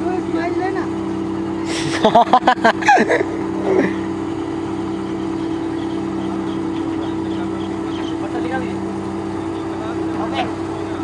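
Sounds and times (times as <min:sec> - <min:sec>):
drilling rig engine humming: 0:00.0 - 0:11.0.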